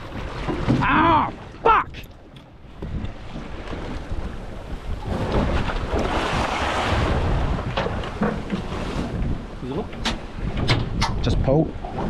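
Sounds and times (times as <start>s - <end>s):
sea water rushing: 0.0s - 12.0s
wind noise on microphone: 1.8s - 12.0s.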